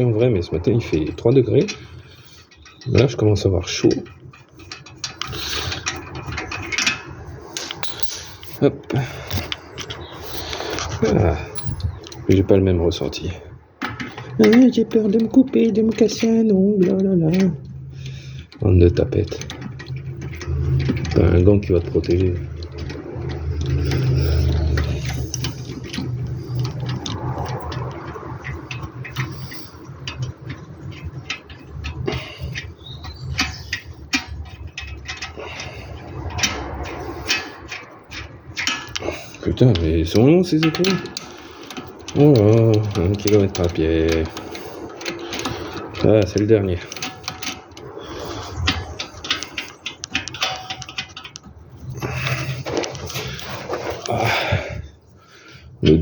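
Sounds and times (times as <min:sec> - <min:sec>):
hand tools clicking on car parts: 0:00.0 - 0:56.0.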